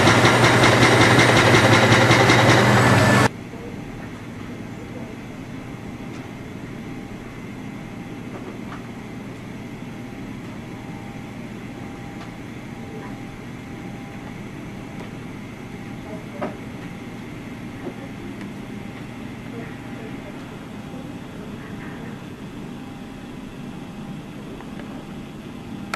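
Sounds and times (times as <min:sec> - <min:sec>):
distant heavy diesel machinery rumble: 0:00.0 - 0:25.9
faint steady whine: 0:00.0 - 0:25.9.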